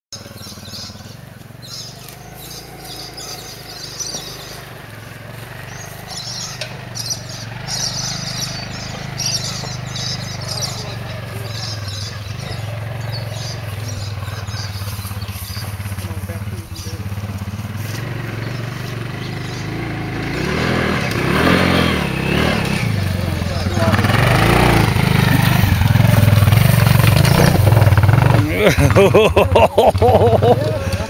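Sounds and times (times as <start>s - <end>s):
birds chirping: 0.1s - 31.0s
motorcycle engine labouring: 0.2s - 31.0s.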